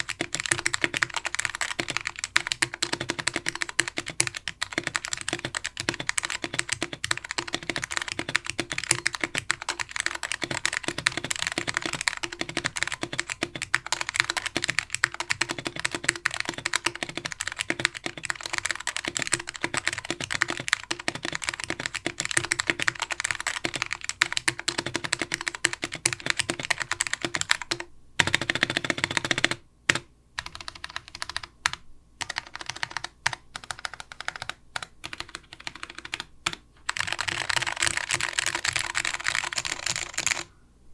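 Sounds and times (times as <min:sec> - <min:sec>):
fast typing on mechanical keyboard: 0:00.0 - 0:40.5.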